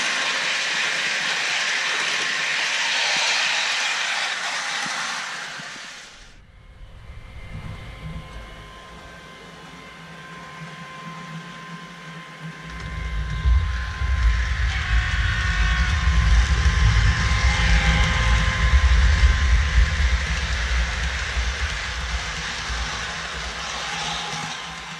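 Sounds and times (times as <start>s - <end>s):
train rumble passing: 0.0s - 11.0s, 12.7s - 24.9s.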